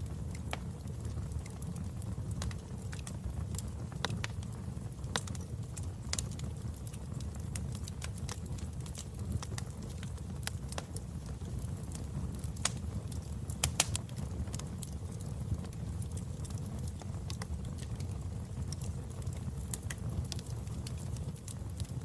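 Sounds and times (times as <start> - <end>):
fire crackling and popping: 0.0 - 22.0
flames rumbling in fireplace: 0.0 - 22.0.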